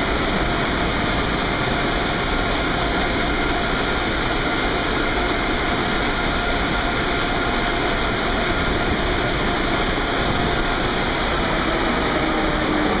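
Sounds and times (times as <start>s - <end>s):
air dryers blowing: 0.0s - 13.0s.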